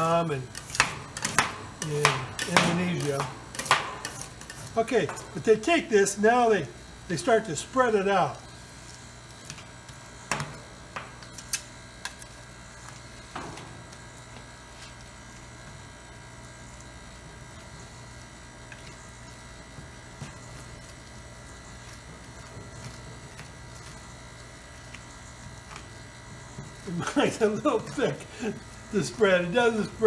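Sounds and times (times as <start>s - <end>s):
refrigeration compressor humming: 0.0s - 30.0s.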